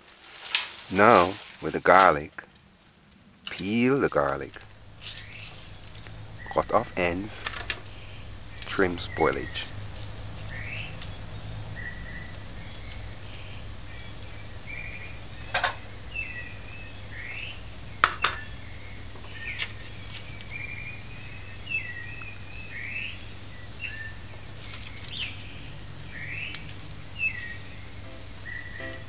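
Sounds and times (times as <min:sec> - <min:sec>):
low steady hum: 0:00.0 - 0:29.0
small birds chirping: 0:00.7 - 0:29.0.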